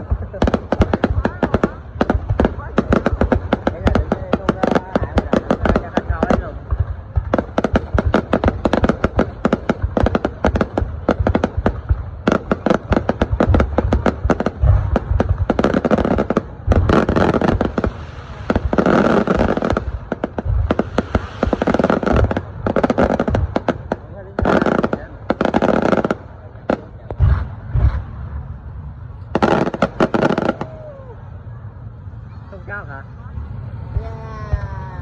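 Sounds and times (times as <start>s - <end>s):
fireworks bangs and cracks: 0.0s - 35.0s
fireworks crackling: 0.0s - 35.0s.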